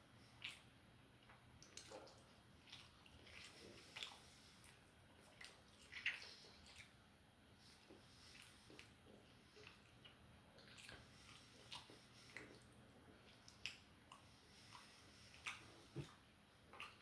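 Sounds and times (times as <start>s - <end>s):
person chewing: 1.6s - 7.0s, 7.8s - 17.0s.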